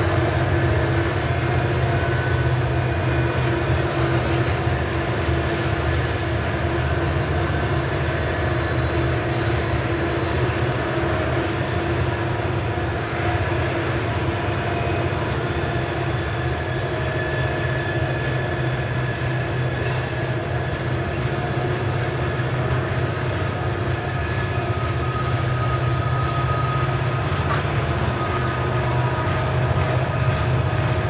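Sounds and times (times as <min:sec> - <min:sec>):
hopper cars rumbling on rails: 0:00.0 - 0:31.0.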